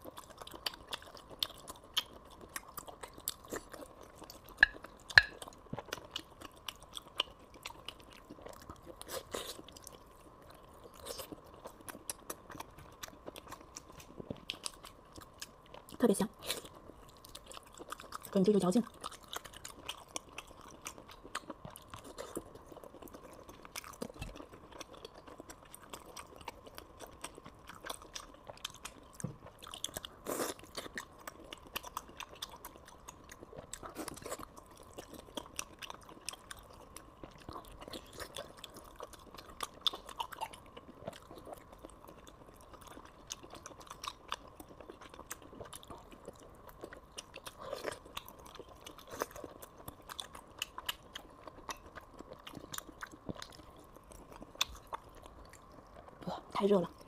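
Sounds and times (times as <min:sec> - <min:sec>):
chewing with mouth clicks: 0:00.0 - 0:57.0.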